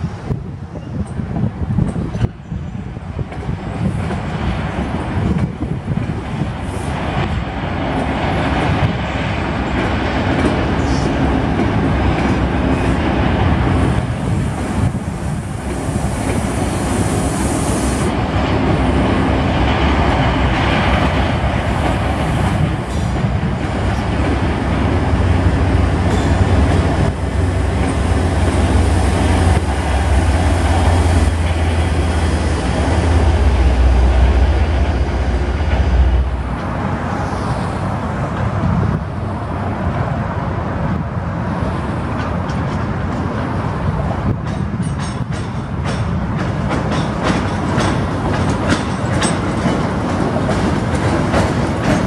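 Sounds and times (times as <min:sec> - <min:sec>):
train wheels rolling on track: 0:00.0 - 0:52.0.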